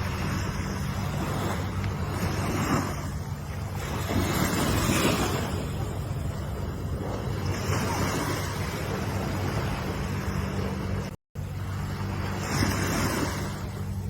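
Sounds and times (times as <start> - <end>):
ocean waves washing in: 0.0 - 14.0
wind on microphone: 0.0 - 14.0.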